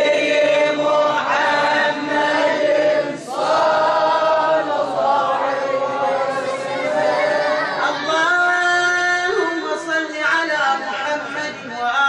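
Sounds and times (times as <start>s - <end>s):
voices chanting devotional refrain: 0.0s - 12.0s.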